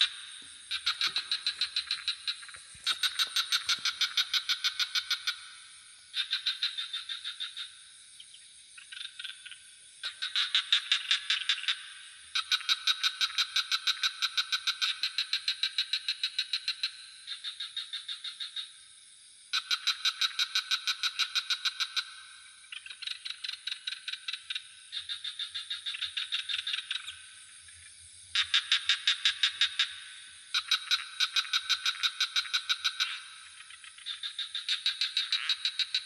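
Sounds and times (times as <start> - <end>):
frogs calling in pulsed trills: 0.0 - 36.0.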